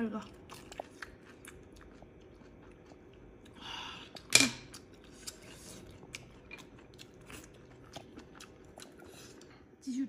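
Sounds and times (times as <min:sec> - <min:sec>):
chewing: 0:00.2 - 0:09.6.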